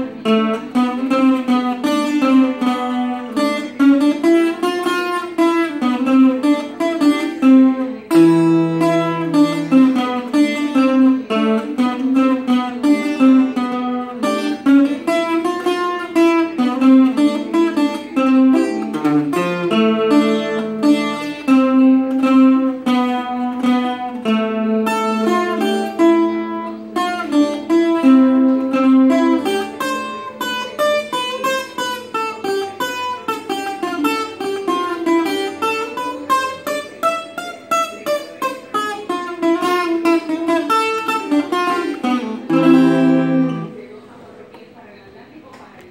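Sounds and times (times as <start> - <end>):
plucked string instrument melody: 0.0 - 44.6.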